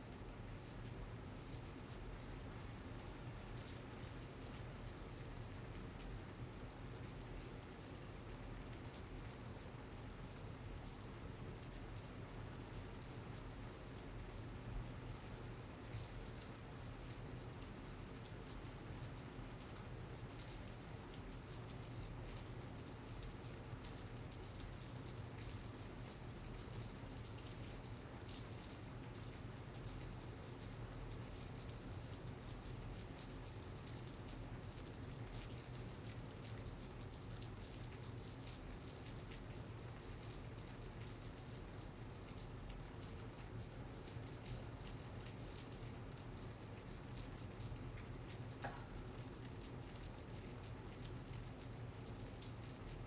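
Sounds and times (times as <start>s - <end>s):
steady rain falling: 0.1s - 53.0s.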